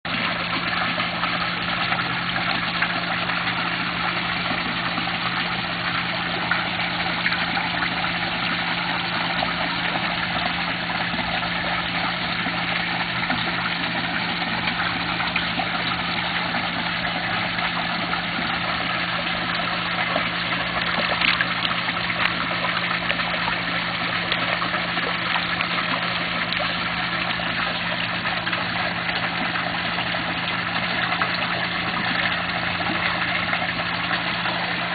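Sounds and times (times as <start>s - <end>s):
running water: 0.0s - 34.9s
low mechanical hum: 0.1s - 34.9s.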